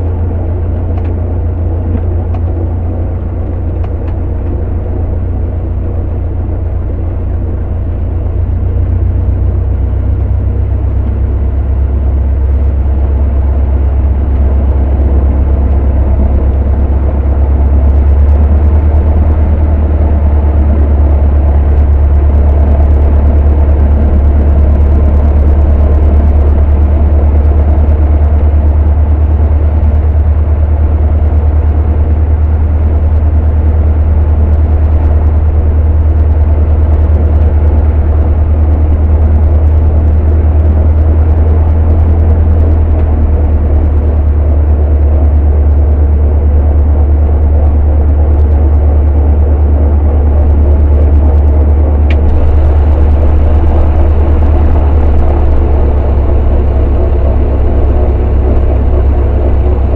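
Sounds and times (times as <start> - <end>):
aircraft engine droning in cabin: 0.0 - 59.9.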